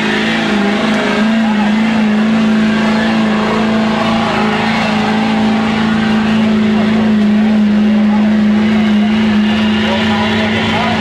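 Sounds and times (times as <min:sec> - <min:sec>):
diesel truck engine at high revs: 0:00.0 - 0:11.0.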